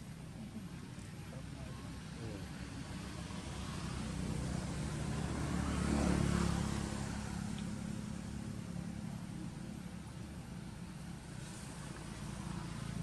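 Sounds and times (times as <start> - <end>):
vehicle driving past: 1.9 - 13.0.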